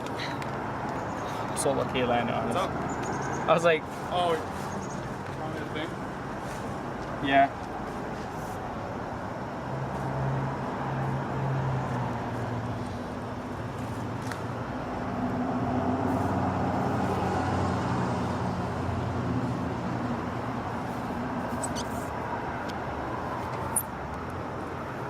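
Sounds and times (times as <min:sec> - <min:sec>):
rushing background noise: 0:00.0 - 0:25.0
vehicle engine humming: 0:00.0 - 0:25.0.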